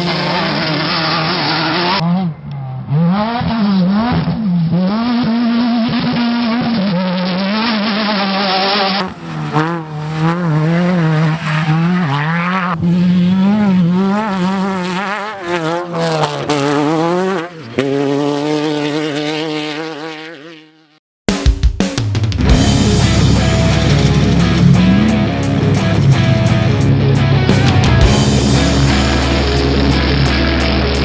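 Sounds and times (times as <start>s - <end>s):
race vehicle engines revving: 0.0s - 20.4s, 22.5s - 31.0s.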